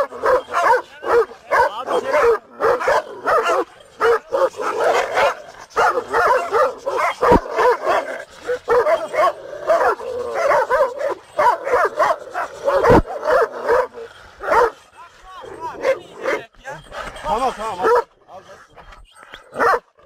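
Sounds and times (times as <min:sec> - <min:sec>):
dogs barking: 0:00.0 - 0:20.0.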